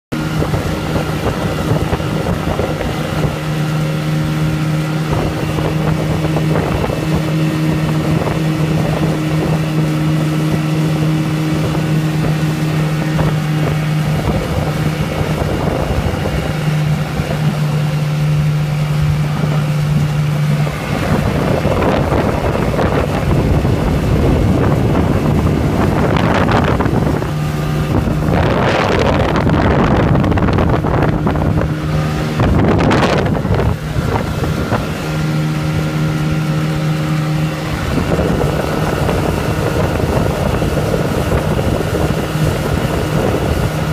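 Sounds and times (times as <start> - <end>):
outboard motor running: 0.1 - 43.9
wind buffeting microphone: 0.1 - 43.9.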